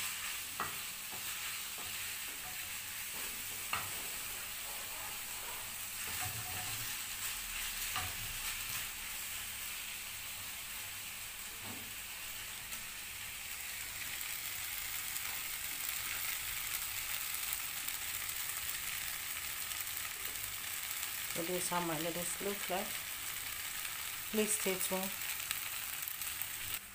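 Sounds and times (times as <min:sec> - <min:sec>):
noodles sizzling in frying pan: 0:00.0 - 0:26.9.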